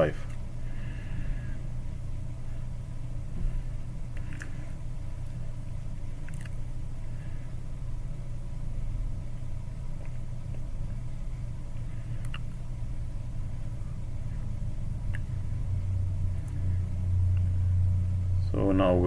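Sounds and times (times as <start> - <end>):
low electric hum: 0.0 - 19.0.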